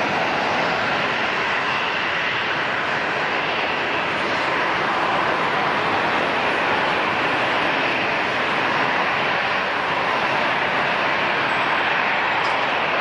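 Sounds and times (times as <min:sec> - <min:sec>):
airliner engines rushing: 0:00.0 - 0:13.0.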